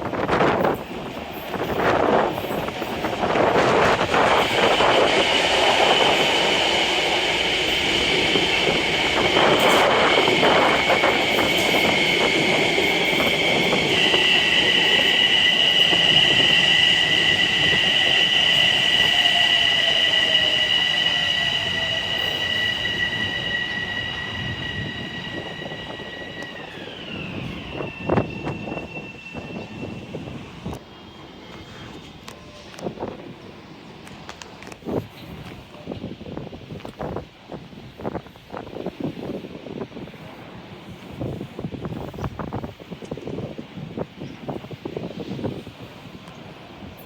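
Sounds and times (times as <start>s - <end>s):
train wheel squeal: 0.0s - 33.0s, 38.0s - 47.0s
rumbling train noise: 0.0s - 47.0s.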